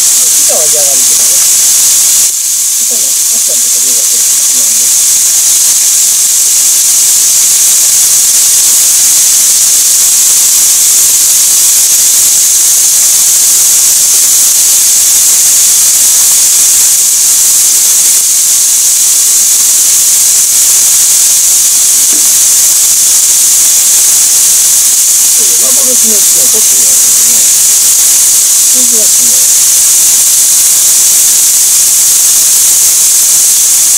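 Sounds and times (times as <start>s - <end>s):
chicken sizzling in a frying pan: 0.0s - 33.9s.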